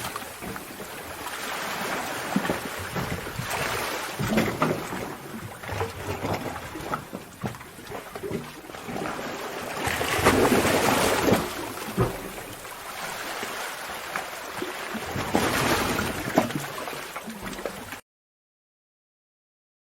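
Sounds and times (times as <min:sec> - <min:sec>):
sea water sloshing in a cave: 0:00.0 - 0:18.0
water splashes: 0:00.0 - 0:18.0.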